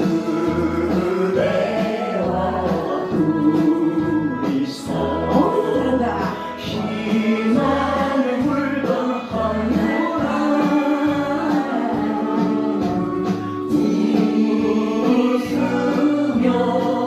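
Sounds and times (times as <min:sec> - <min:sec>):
bass beat: 0:00.0 - 0:17.0
several voices singing: 0:00.0 - 0:17.0.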